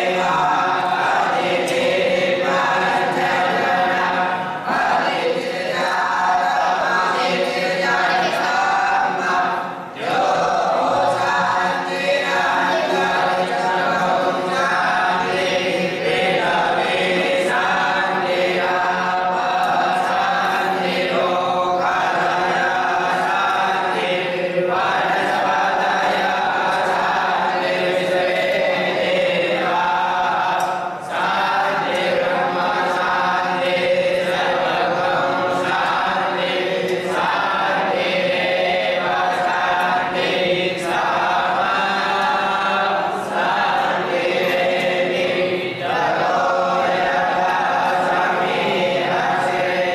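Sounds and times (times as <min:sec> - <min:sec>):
voices chanting in unison: 0:00.0 - 0:49.9.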